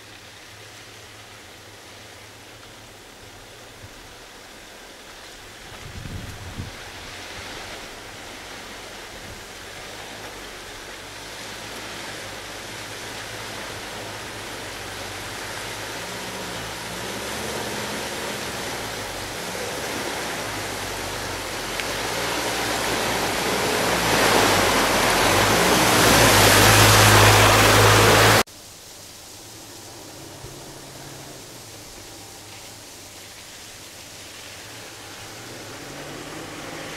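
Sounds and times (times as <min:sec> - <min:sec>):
rushing tyres and spray: 0:00.0 - 0:36.9
suv engine: 0:00.0 - 0:36.9.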